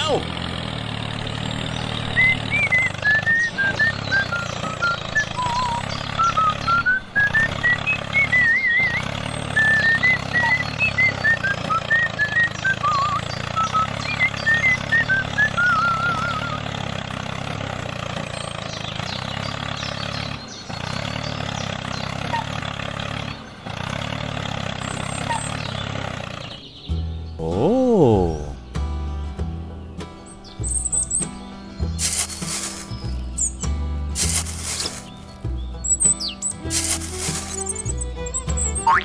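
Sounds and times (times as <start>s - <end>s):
tractor engine droning: 0.0s - 39.0s.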